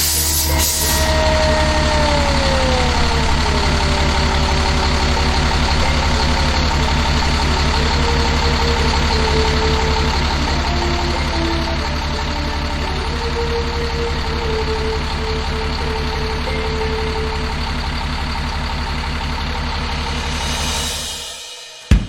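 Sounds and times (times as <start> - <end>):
siren winding down: 0.0 - 21.3
diesel engine low throb: 0.0 - 21.4.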